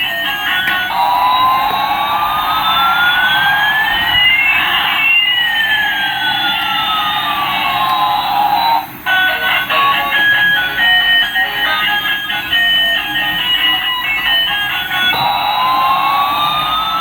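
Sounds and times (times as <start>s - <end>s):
steady buzzing hiss: 0.0s - 17.0s
electronic siren-like sweep: 0.9s - 17.0s.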